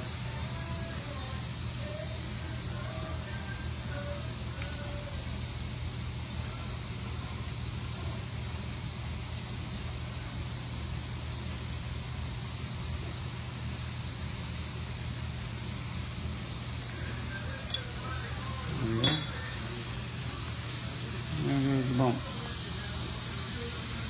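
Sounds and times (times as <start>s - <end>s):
constant hiss: 0.0s - 24.0s.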